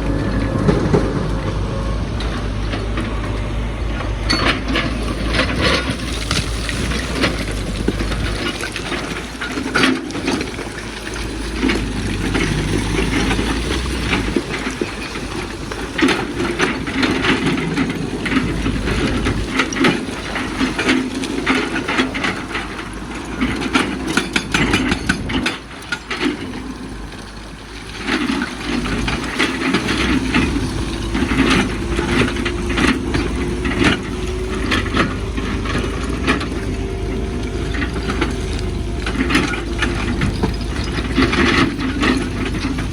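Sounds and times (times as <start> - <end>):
excavator diesel engine: 0.0 - 42.9
rock clattering against steel bucket: 4.3 - 26.8, 27.8 - 42.9.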